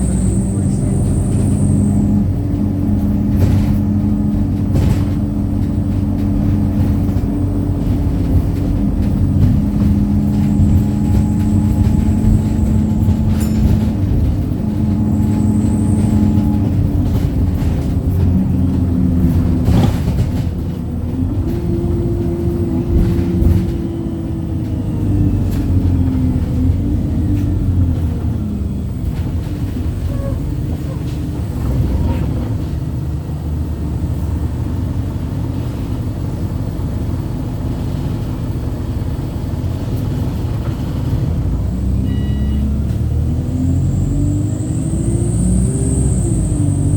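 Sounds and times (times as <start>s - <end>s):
bus engine rumble and whine: 0.0s - 46.9s.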